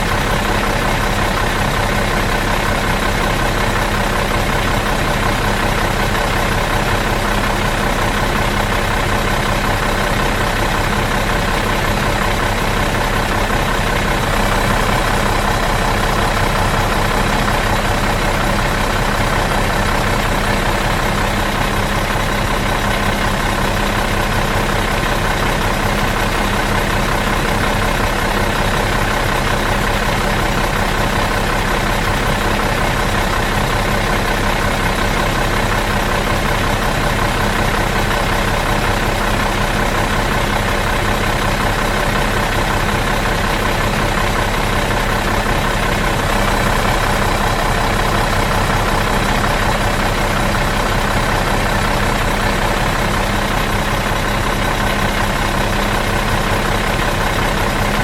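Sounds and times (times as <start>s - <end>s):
bus engine idling: 0.0s - 58.0s.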